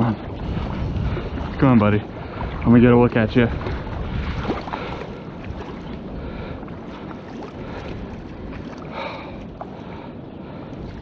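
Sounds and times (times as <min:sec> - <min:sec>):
water sloshing and splashing: 0:00.0 - 0:11.0
wind noise on microphone: 0:00.0 - 0:11.0.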